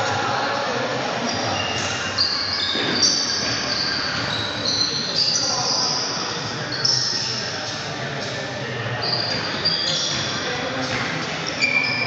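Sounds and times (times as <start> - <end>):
shoes squeaking on gym floor: 1.2 - 12.0.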